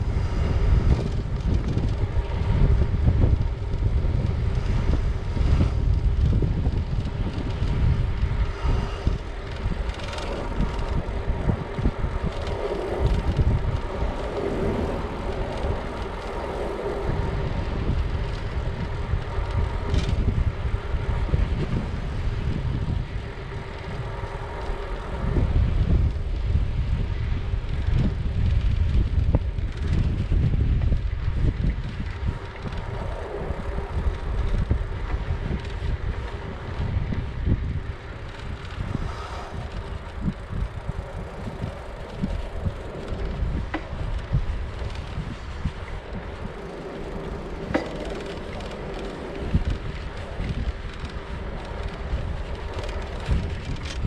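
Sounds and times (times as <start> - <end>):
road noise: 0.0 - 54.0
wind buffeting microphone: 0.0 - 54.0.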